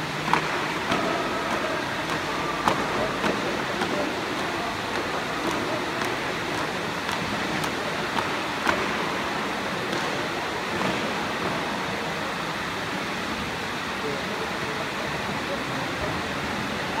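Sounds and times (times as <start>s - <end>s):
echoing crowd noise: 0.0s - 17.0s.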